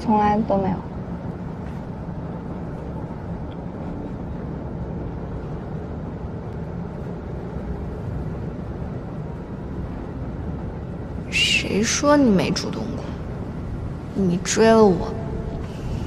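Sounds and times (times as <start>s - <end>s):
rail carriage rumbling: 0.0s - 16.0s.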